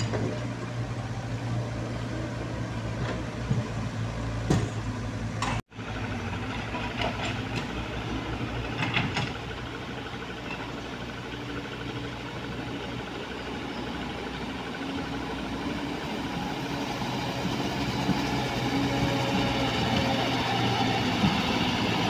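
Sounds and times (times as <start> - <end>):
dump truck engine: 0.0 - 22.0
excavator engine running: 0.0 - 22.0.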